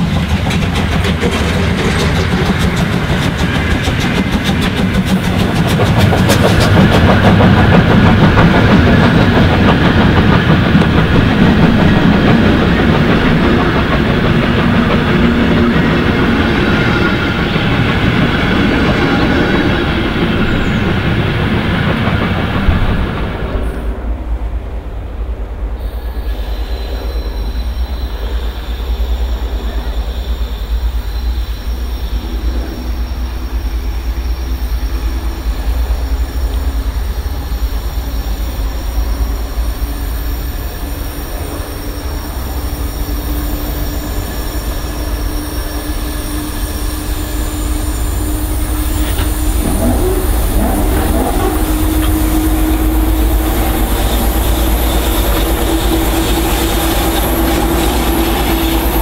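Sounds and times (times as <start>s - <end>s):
train wheels squealing: 0.0s - 23.9s, 25.8s - 59.0s
diesel locomotive engine drone: 0.0s - 59.0s.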